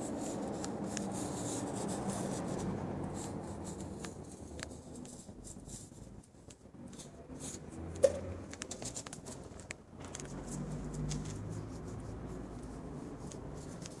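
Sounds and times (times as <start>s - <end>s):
fabric rubbing on microphone: 0.0s - 7.9s, 8.6s - 14.0s
small clicks and scratches: 0.0s - 14.0s.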